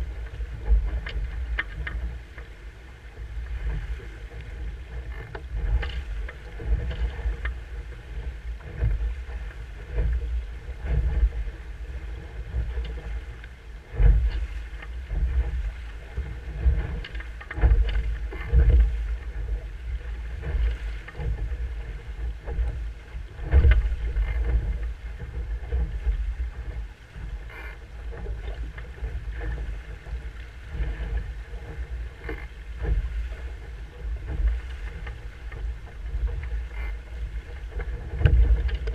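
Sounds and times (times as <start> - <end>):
water rushing past a hull: 0.0 - 38.9
wind buffeting the microphone: 0.0 - 38.9.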